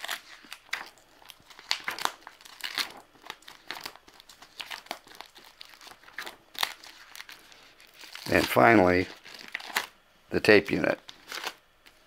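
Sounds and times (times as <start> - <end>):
plastic sheets crinkling: 0.0 - 10.0, 10.6 - 12.0.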